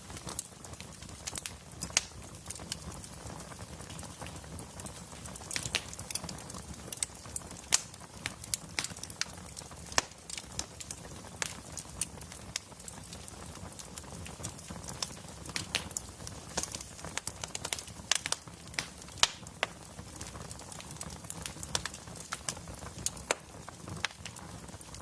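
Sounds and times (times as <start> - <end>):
low rumble of burning logs: 0.0 - 25.0
wood fire crackling: 0.0 - 25.0.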